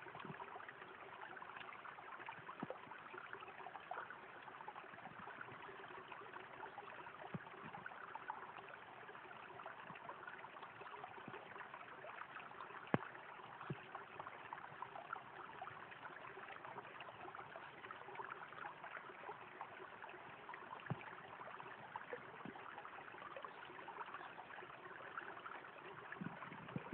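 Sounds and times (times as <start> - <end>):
stream babbling over stones: 0.0 - 26.9.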